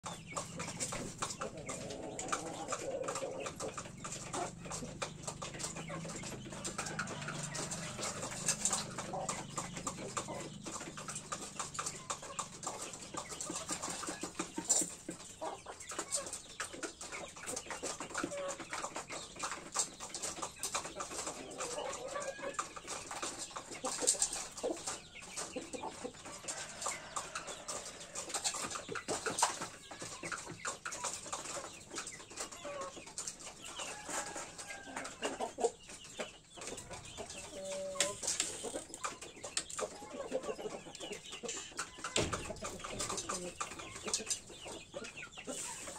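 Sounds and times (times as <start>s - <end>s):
beaks pecking on metal tray: 0.0s - 45.9s
chickens clucking: 0.0s - 45.9s.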